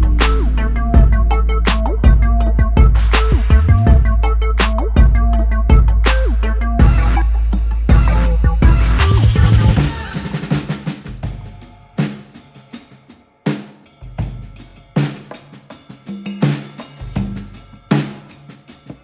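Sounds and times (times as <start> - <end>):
slow drum beat: 0.0 - 19.0.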